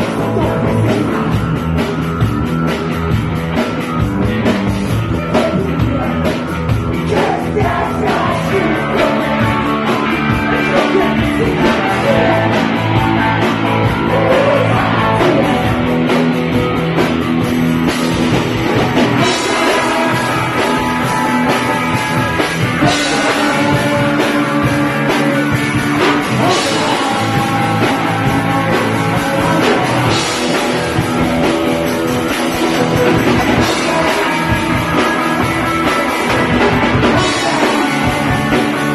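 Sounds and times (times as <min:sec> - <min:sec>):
punk rock band playing live: 0:00.0 - 0:38.9.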